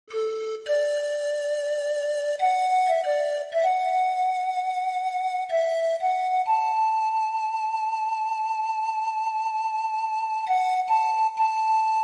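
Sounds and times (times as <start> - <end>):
slow flute-like instrumental music: 0.1 - 12.0.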